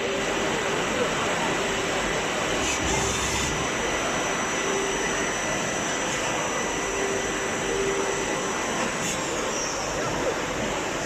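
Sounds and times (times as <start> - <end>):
faint high whines: 0.0 - 11.0
lower whine: 0.0 - 11.0.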